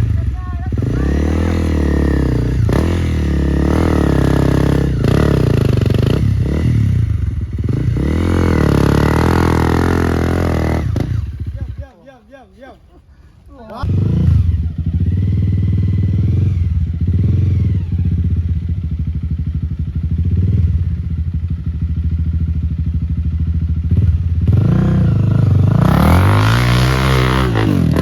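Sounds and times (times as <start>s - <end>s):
motorcycle engine revving: 0.0s - 12.0s, 13.8s - 28.0s.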